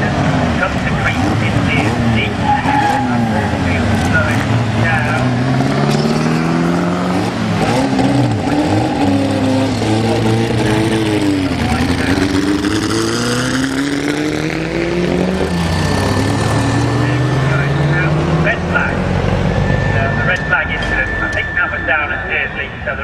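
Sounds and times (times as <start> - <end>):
racing car engines accelerating: 0.0 - 23.0.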